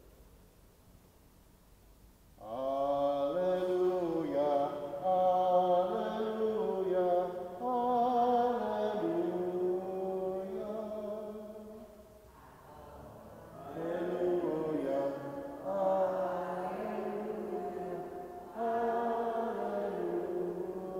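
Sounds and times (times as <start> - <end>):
person chanting unaccompanied: 2.4 - 20.9.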